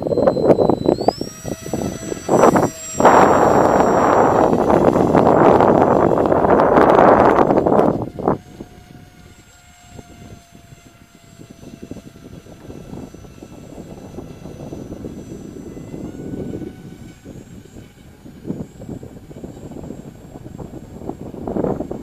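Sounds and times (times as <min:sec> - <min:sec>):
model airplane motor whining: 0:00.0 - 0:22.0.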